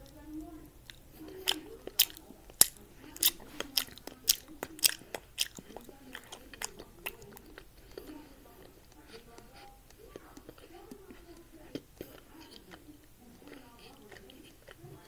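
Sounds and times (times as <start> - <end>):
person chewing gum: 0.0 - 15.0.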